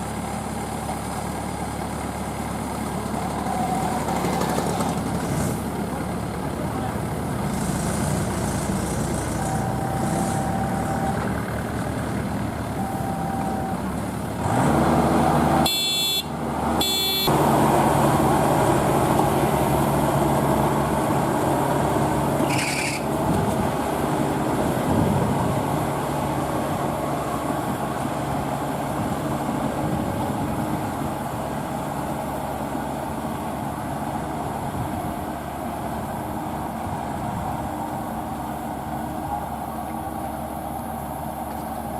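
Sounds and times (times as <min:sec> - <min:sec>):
farm machinery engine running: 0:00.0 - 0:41.9.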